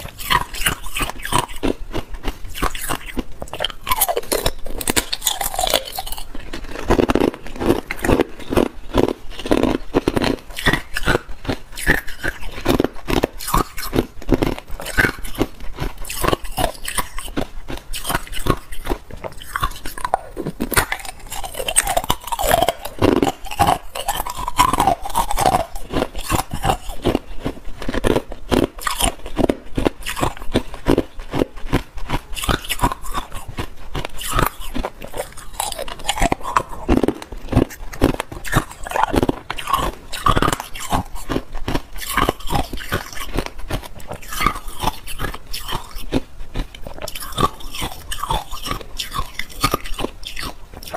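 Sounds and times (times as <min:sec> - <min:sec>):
ice crunching being chewed: 0:00.0 - 0:50.9.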